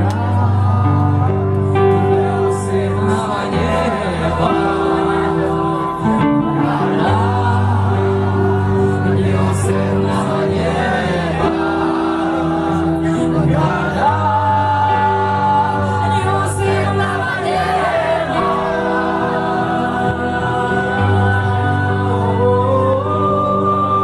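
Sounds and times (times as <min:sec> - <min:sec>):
person singing: 0:00.0 - 0:24.0
sustained bass notes: 0:00.0 - 0:24.0.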